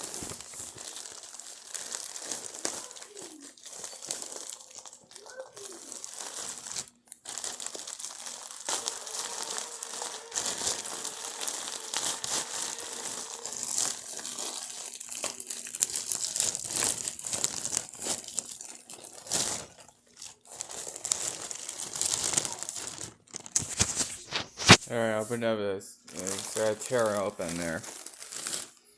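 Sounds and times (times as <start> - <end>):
packaging crinkling: 0.0 - 24.8, 26.1 - 28.9.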